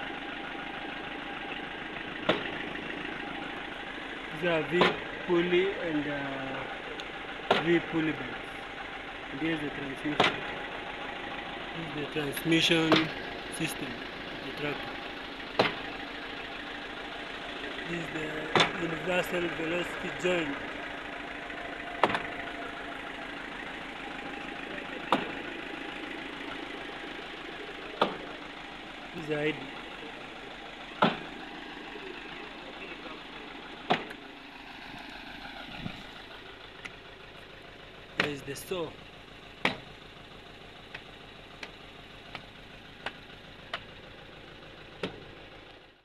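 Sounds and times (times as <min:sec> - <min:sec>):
tractor engine idling: 0:00.0 - 0:46.0.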